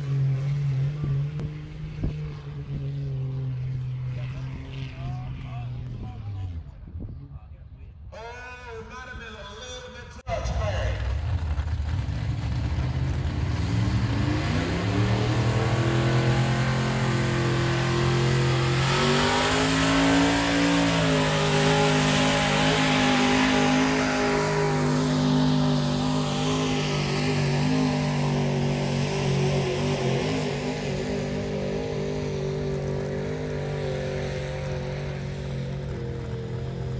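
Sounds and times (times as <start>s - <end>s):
vehicle engine revving: 0.0s - 7.3s, 11.0s - 36.9s.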